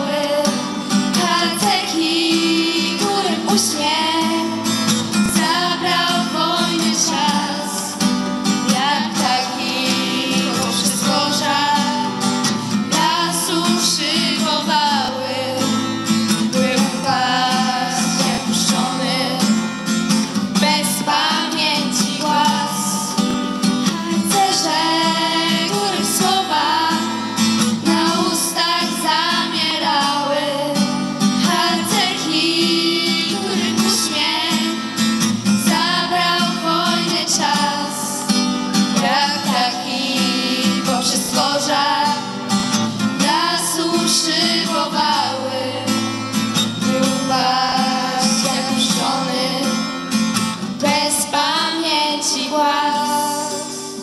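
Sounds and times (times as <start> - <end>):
girls singing together: 0.0 - 19.7, 20.6 - 49.9, 50.7 - 54.0
strummed acoustic guitar: 0.0 - 54.0.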